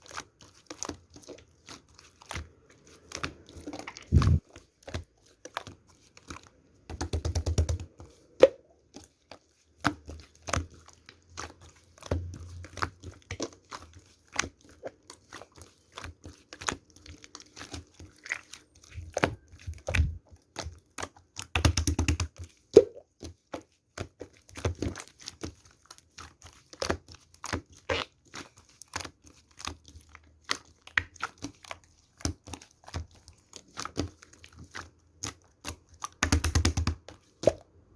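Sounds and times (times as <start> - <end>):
slime clicking and crackling: 0.0 - 37.8.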